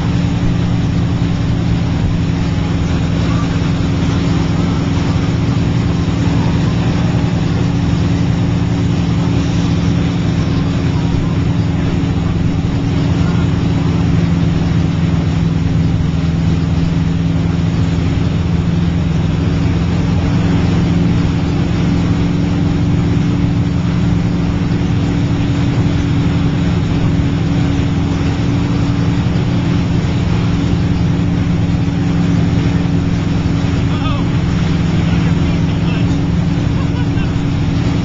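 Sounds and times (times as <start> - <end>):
boat engine humming: 0.0 - 38.0
water wash of wake: 0.0 - 38.0.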